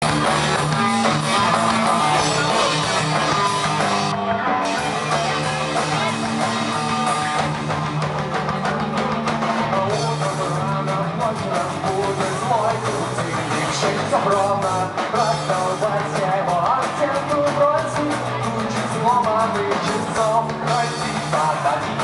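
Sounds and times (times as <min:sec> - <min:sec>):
drum kit: 0:00.0 - 0:22.0
electric guitars: 0:00.0 - 0:22.0.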